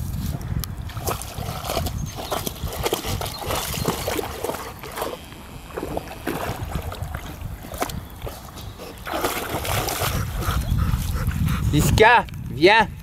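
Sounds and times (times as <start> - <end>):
dog wading through water: 0.8 - 11.7.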